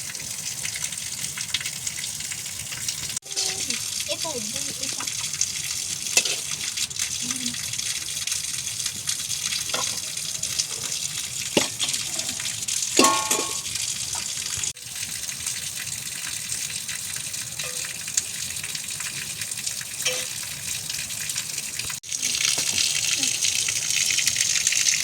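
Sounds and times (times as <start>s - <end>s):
rushing water hiss: 1.5s - 25.0s.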